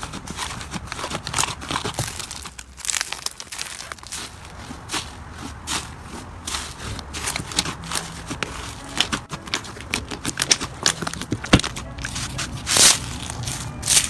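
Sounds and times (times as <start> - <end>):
slime crackling and popping: 0.0 - 4.4, 6.8 - 14.0
slime squelch: 0.0 - 14.0.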